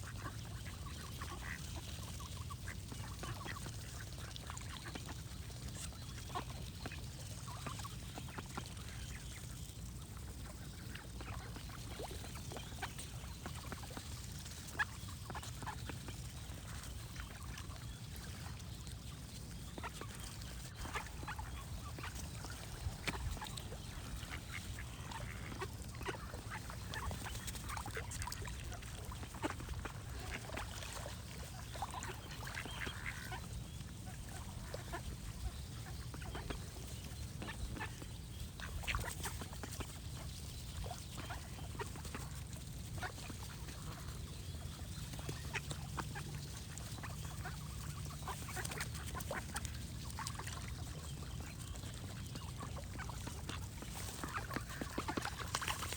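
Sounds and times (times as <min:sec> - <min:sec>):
ducks quacking: 0:00.0 - 0:55.9
small birds singing: 0:00.0 - 0:55.9.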